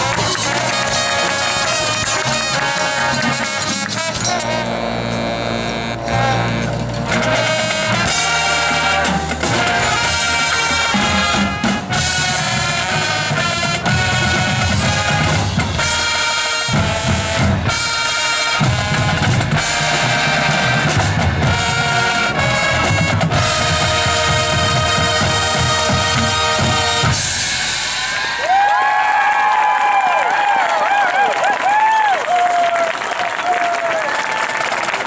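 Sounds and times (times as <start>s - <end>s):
brass chords: 0.0s - 28.5s
bass drums and snare: 0.0s - 28.8s.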